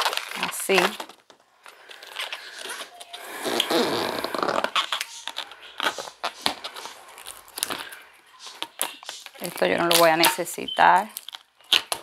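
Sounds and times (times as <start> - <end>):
balloons squeaking and rubbing: 0.0 - 12.0.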